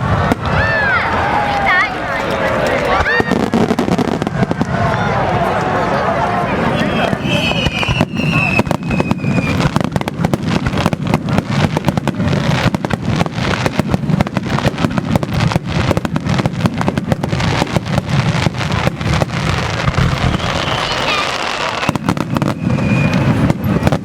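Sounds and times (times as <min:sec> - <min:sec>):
firework bangs and crackles: 0:00.0 - 0:24.0.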